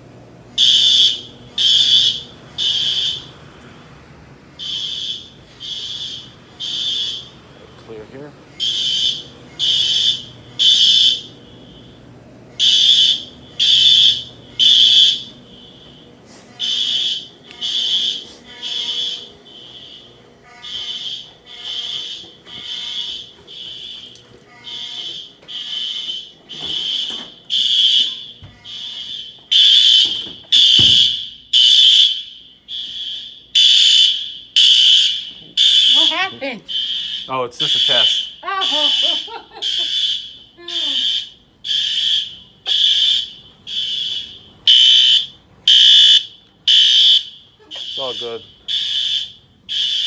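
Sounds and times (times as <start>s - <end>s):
faint distant alarm horns: 0.0s - 50.0s
fire alarm horns blasting: 0.0s - 50.0s.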